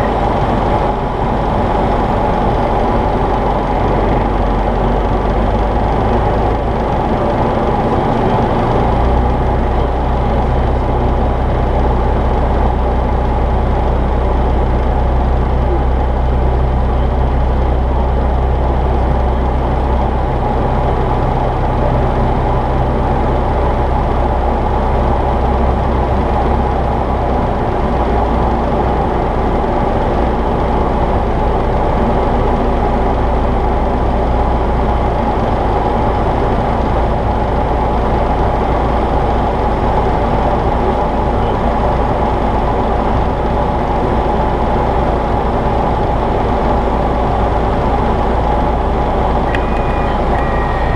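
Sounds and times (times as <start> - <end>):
light aircraft engine droning: 0.0 - 50.9.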